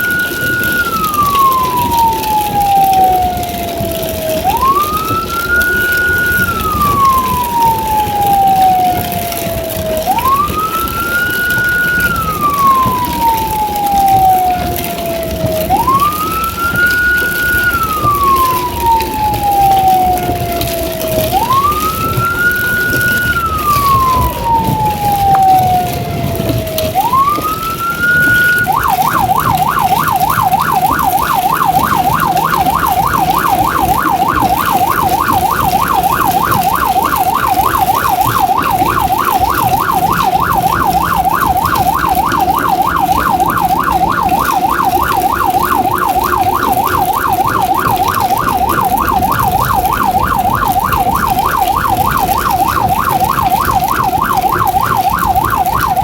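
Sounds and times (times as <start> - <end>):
electronic siren wailing and yelping: 0.0 - 56.0.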